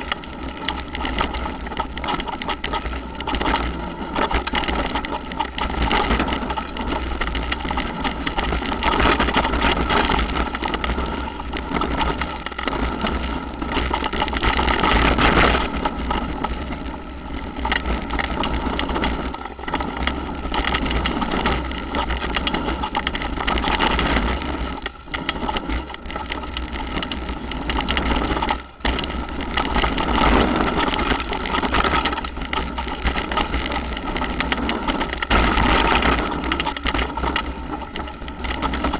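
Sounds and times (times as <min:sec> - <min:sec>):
bike rattling over bumps: 0:00.0 - 0:38.9.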